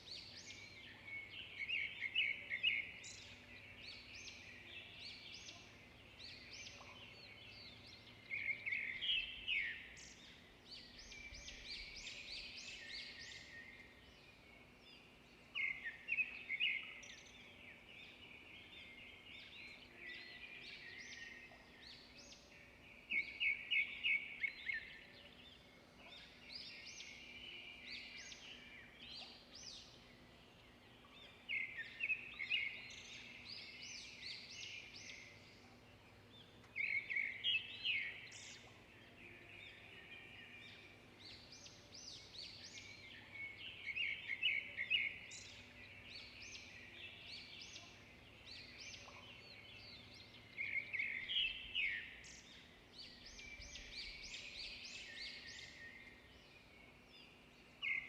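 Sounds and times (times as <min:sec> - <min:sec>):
loud bird song phrase: 0:00.0 - 0:58.0
songbirds twittering: 0:00.0 - 0:58.0.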